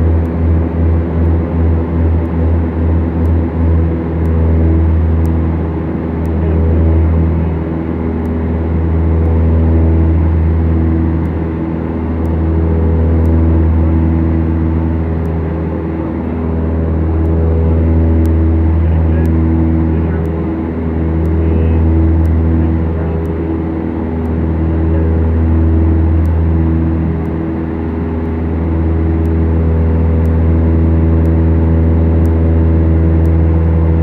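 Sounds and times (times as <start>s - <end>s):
twin propeller engines droning: 0.0s - 34.0s.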